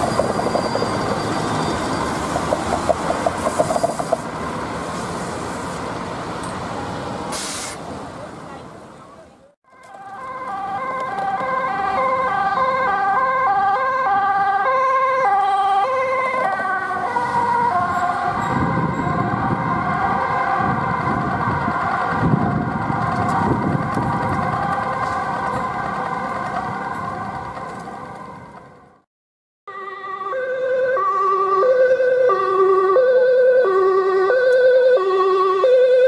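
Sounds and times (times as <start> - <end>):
two-tone ambulance siren: 0.0 - 4.1, 9.7 - 29.0, 29.7 - 36.0
engine and tyre noise: 0.0 - 29.0.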